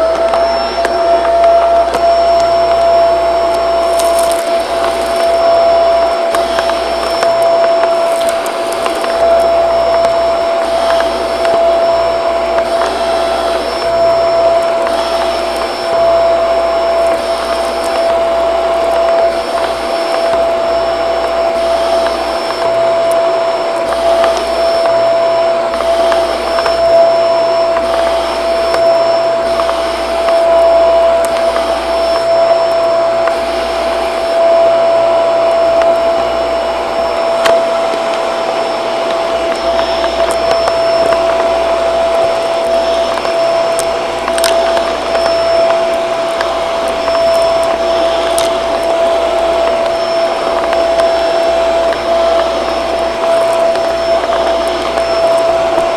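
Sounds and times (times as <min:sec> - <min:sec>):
vacuum cleaner whining: 0:00.0 - 0:55.9.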